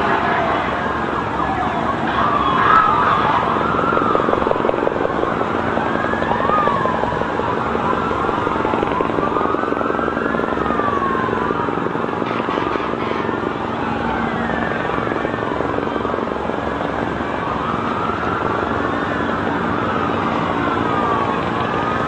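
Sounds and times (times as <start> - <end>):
city noise: 0.0 - 22.0
emergency vehicle sirens wailing: 0.0 - 22.0.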